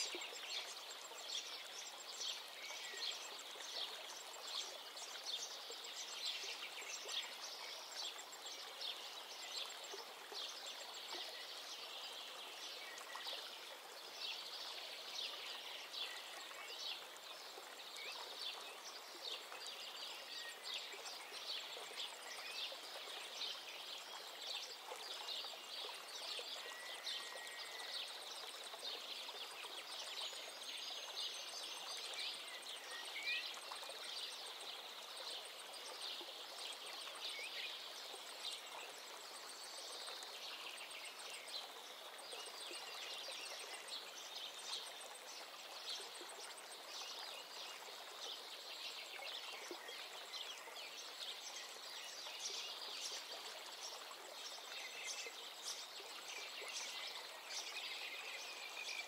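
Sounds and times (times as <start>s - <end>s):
hiss like running water: 0.0s - 59.0s.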